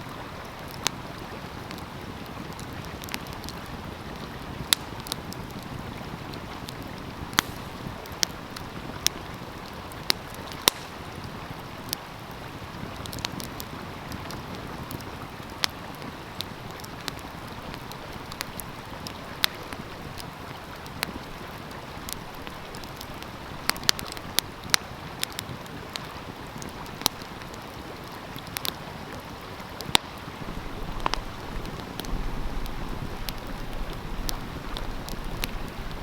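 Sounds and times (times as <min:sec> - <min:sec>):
stream flowing: 0:00.0 - 0:36.0
wood fire crackling and popping: 0:00.1 - 0:36.0.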